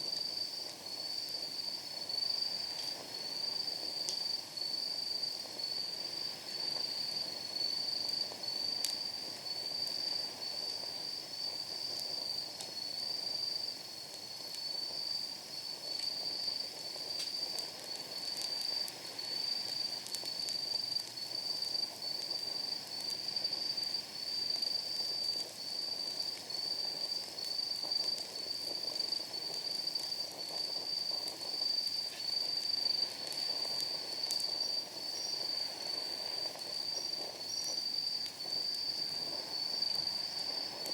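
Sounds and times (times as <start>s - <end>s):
night insects chirping: 0.0s - 40.9s
sharp pops of fire: 0.0s - 40.9s
soft hiss of flame: 0.0s - 40.9s
wood fire crackling: 0.0s - 40.9s.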